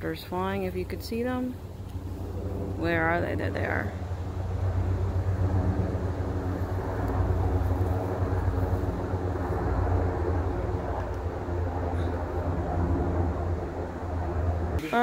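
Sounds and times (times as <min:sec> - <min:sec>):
distant helicopter rotors throbbing: 0:00.0 - 0:15.0.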